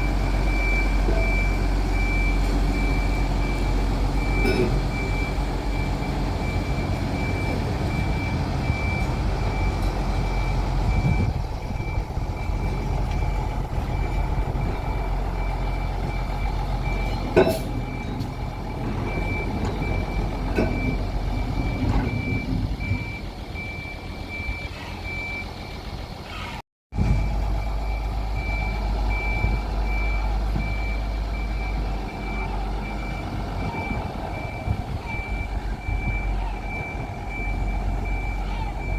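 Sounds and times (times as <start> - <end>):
heavy vehicle engine rumble: 0.0 - 38.9
vehicle warning beeper: 0.0 - 38.9.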